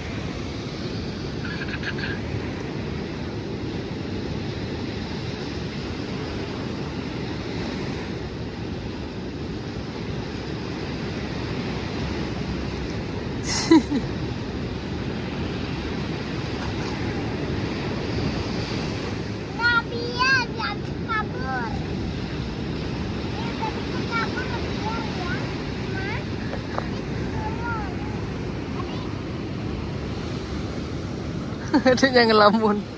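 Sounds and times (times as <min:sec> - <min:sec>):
surf rushing: 0:00.0 - 0:32.9
wind buffeting microphone: 0:00.0 - 0:32.9.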